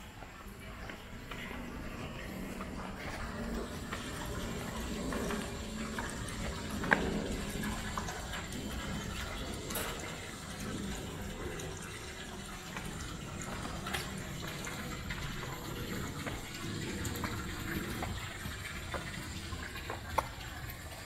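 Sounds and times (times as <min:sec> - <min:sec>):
steady rushing noise: 0:00.0 - 0:20.3.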